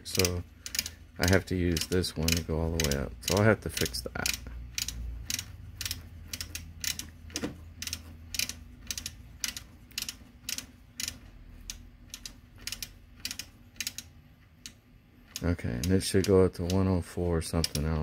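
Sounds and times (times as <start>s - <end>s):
low steady hum: 0.0s - 18.0s
rotary knob clicking: 0.1s - 16.8s, 17.5s - 18.0s.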